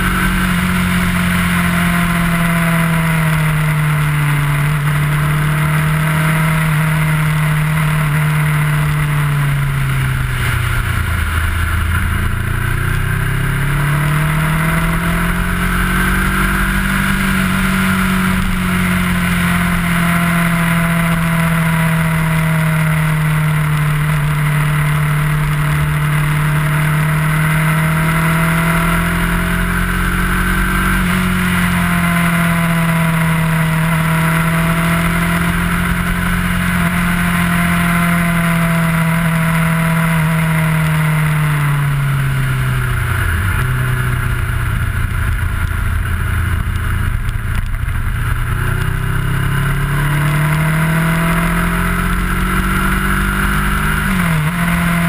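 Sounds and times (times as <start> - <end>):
motorcycle engine under way: 0.0 - 55.0
wind and road noise: 0.0 - 55.0.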